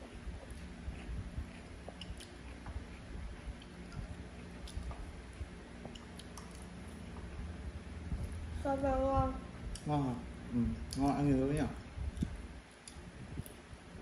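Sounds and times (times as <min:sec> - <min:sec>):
people chewing food: 0:00.0 - 0:08.6, 0:10.6 - 0:13.8.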